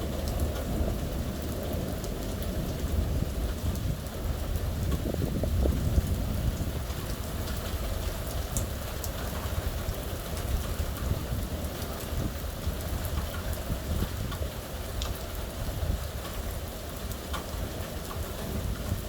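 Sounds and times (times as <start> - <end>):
rain drop hits: 0.0 - 19.0
rain falling: 0.0 - 19.0.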